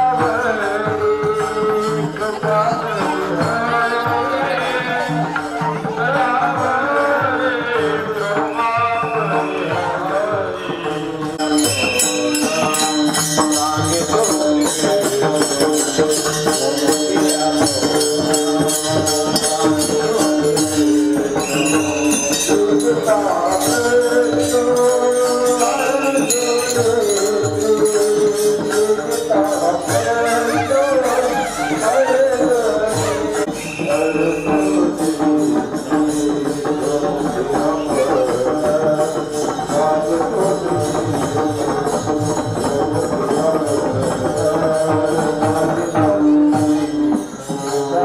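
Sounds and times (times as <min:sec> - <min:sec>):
devotional singing: 0:00.0 - 0:48.0
held accompaniment: 0:00.0 - 0:48.0
jingling hand percussion: 0:00.0 - 0:48.0.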